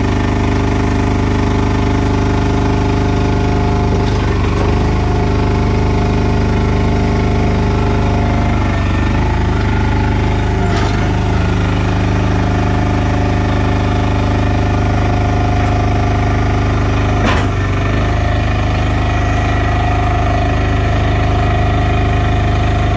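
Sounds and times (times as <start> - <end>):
mortar mixer engine running: 0.0 - 22.9.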